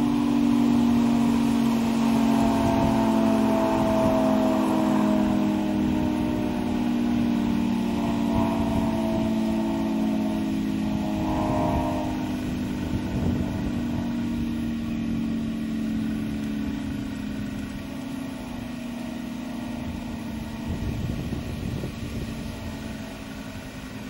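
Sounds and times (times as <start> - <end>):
air raid siren winding down: 0.0 - 24.0.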